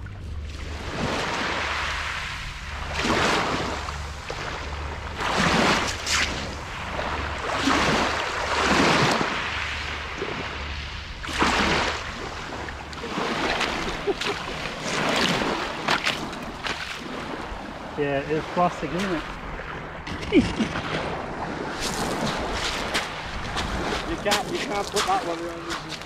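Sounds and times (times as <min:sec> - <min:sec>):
wind rumble on microphone: 0:00.0 - 0:26.0
waves washing over shingle: 0:00.5 - 0:26.0.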